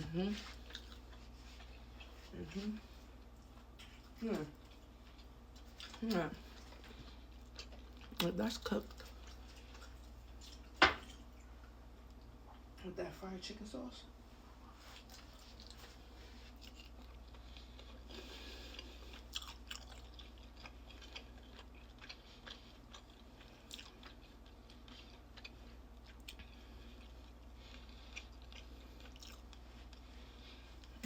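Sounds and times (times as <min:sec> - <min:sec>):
person chewing crispy food: 0:00.3 - 0:02.3, 0:03.1 - 0:11.4, 0:14.8 - 0:31.0.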